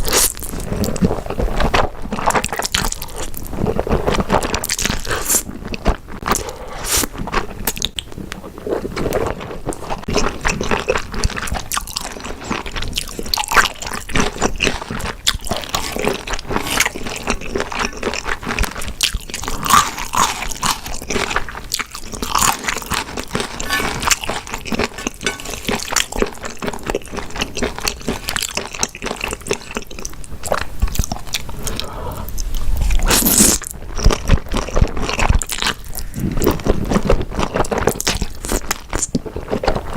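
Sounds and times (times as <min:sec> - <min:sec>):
person chewing food: 0:00.0 - 0:39.9
wet crunchy mouth sounds: 0:00.0 - 0:39.9.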